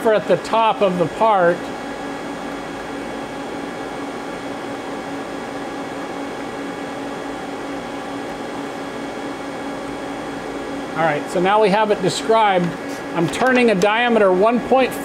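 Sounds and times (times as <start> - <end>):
shop machinery hum: 0.0 - 15.0.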